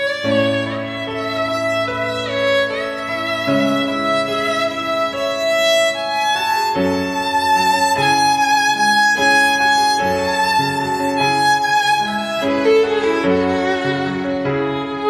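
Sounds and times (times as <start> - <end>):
violin playing held notes: 0.0 - 15.0.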